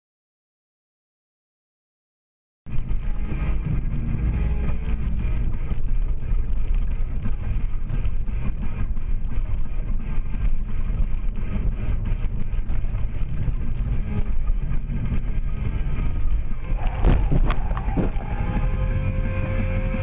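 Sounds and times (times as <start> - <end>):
car engine and road noise: 2.7 - 20.0.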